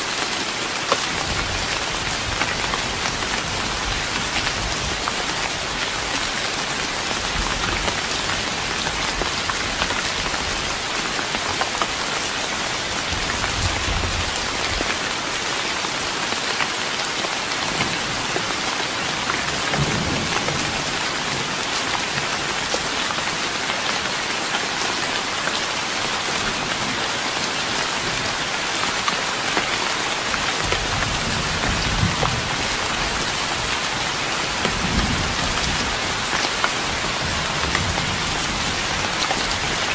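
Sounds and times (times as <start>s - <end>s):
rain pattering on wooden deck: 0.0s - 39.9s.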